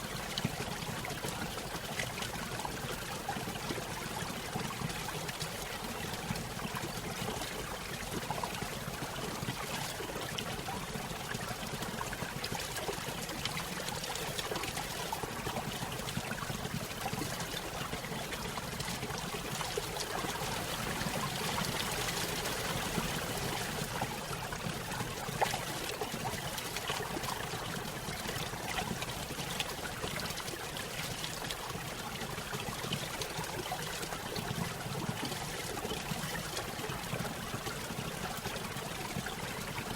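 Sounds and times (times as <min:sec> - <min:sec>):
stream trickling over waterfall: 0:00.0 - 0:39.9.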